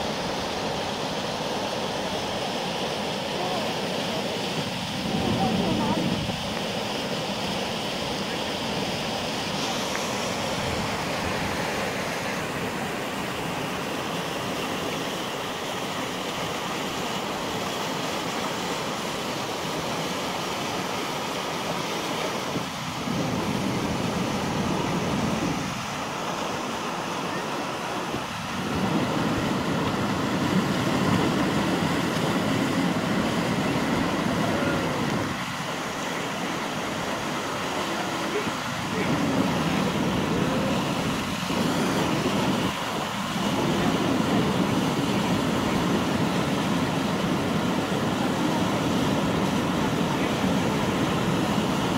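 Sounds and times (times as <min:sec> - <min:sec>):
white water rapids rushing: 0:00.0 - 0:51.9.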